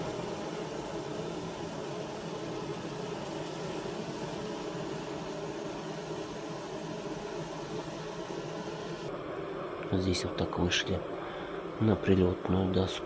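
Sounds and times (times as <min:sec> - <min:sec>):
bees humming in a hive: 0:00.0 - 0:13.0.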